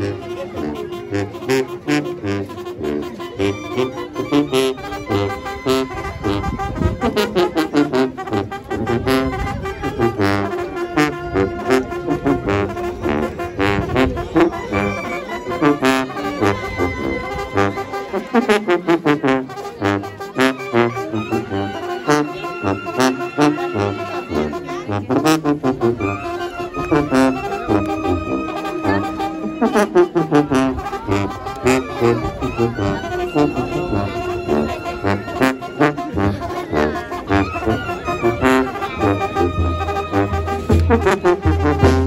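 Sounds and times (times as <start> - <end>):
trumpet and trombone melody: 0.0 - 42.0.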